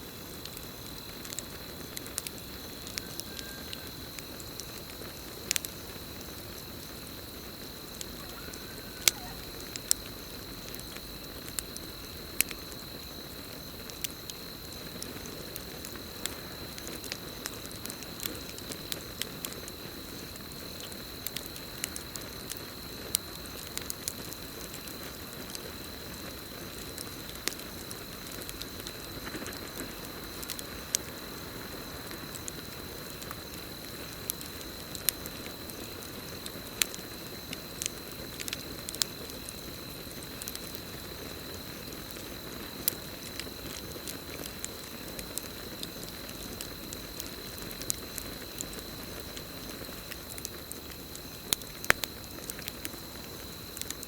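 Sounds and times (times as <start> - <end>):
campfire crackling and popping: 0.0 - 54.0
cricket trill: 0.0 - 54.0.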